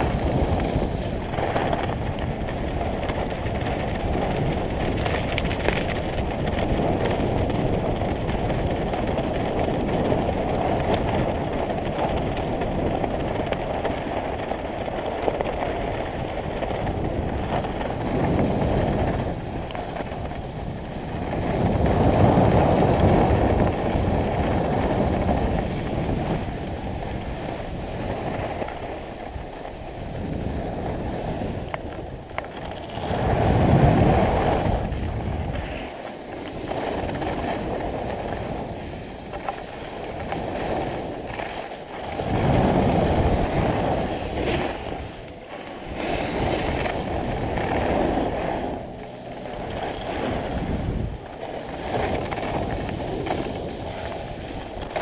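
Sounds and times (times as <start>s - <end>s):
skis scraping over snow: 0.0s - 55.0s
wind buffeting microphone: 0.0s - 55.0s.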